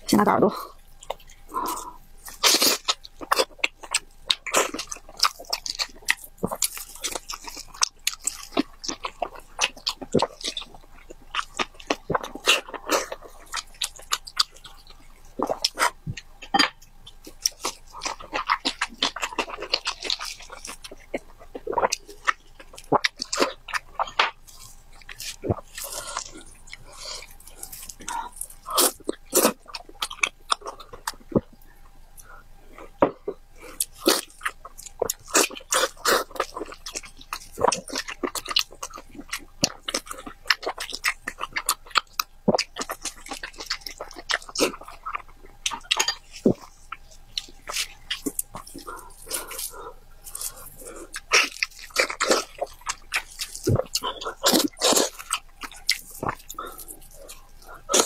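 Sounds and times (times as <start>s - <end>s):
person chewing crunchy cartilage: 0.0s - 58.0s.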